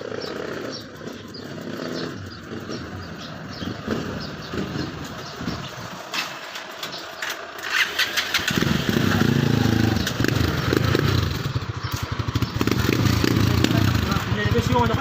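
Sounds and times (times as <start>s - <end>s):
motorcycle engine starting: 0.0s - 15.0s.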